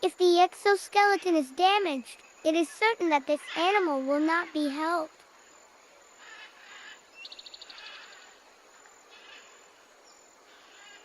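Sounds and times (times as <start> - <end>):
outdoor nature ambience: 0.0 - 11.0.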